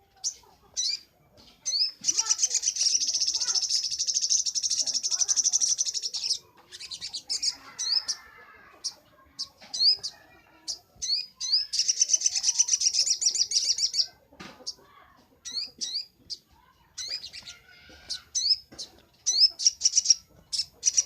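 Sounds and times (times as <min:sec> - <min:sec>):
bird chattering trill: 0:00.2 - 0:14.8, 0:15.4 - 0:16.4, 0:17.0 - 0:21.0.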